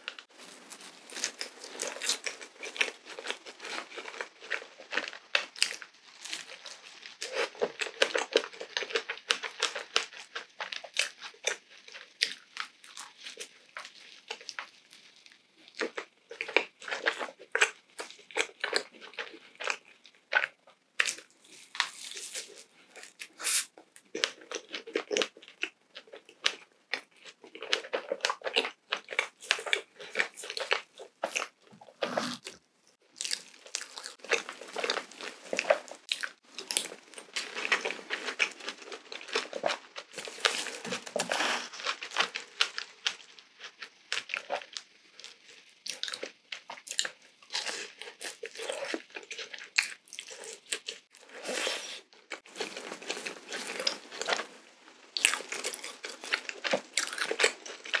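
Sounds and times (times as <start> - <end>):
chewing and biting donuts: 0.5 - 58.0.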